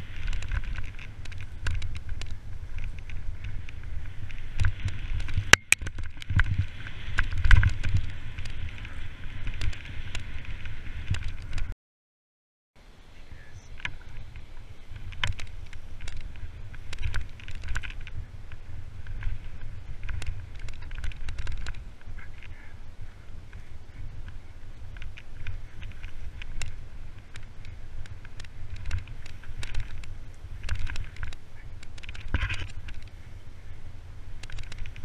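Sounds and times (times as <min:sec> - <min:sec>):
bike rattling over ground: 0:00.0 - 0:11.7, 0:13.7 - 0:35.0
wind rumbling on microphone: 0:00.0 - 0:11.8, 0:12.8 - 0:35.0.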